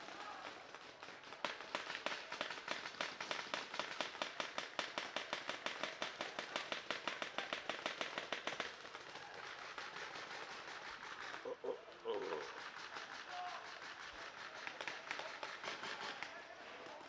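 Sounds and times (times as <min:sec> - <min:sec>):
paintball markers firing: 0:00.0 - 0:11.3, 0:12.2 - 0:17.0.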